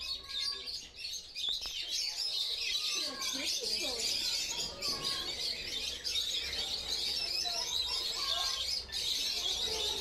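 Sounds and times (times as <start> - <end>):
birds chirping in chorus: 0.0 - 10.0.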